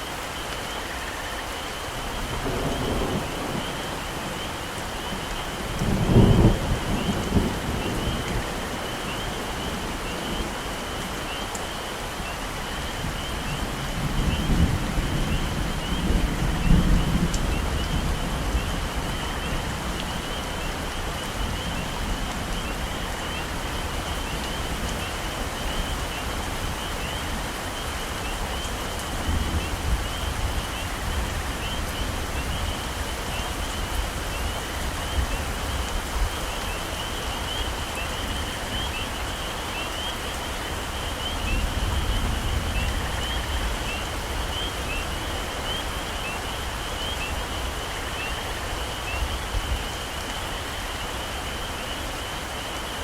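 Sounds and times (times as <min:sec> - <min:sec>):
heavy rain on foliage: 0:00.0 - 0:53.0.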